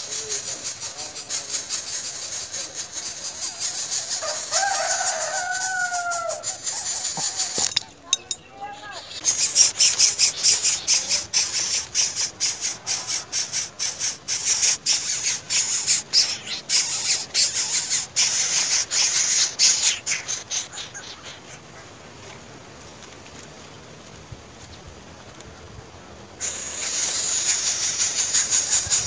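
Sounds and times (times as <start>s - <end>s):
nestlings calling in hissy rasps: 0.0s - 23.6s, 26.1s - 29.0s.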